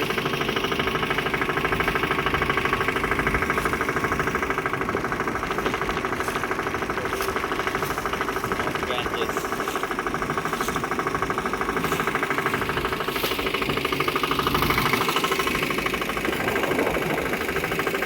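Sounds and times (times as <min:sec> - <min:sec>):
motorboat engine puttering: 0:00.0 - 0:18.0.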